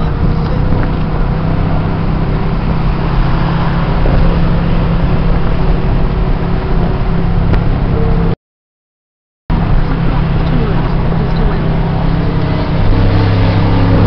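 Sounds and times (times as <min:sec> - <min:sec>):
car engine drone: 0:00.0 - 0:08.4, 0:09.5 - 0:14.0
road noise: 0:00.0 - 0:08.4, 0:09.5 - 0:14.0.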